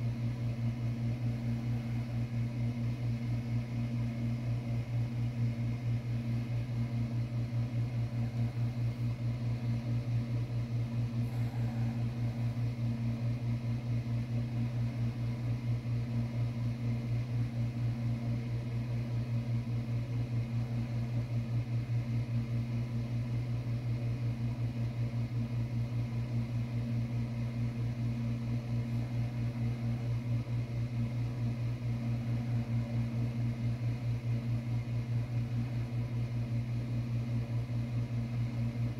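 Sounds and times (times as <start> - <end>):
low mechanical hum with throb: 0.0 - 38.9.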